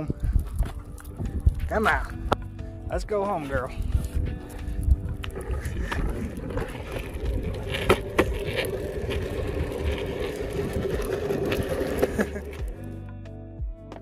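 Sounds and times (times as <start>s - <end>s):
longboard wheels rolling on asphalt: 0.0s - 13.0s.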